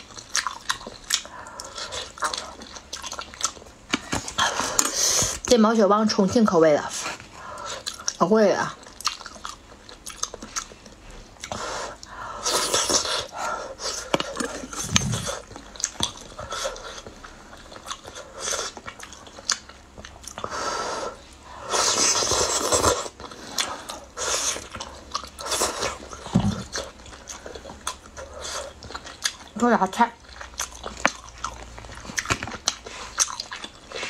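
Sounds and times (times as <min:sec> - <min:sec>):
chewing: 0:00.0 - 0:05.5, 0:06.9 - 0:34.0.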